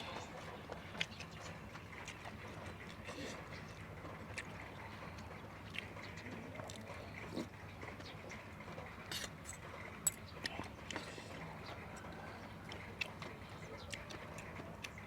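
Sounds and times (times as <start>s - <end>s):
chewing with crunches: 0.0s - 15.0s.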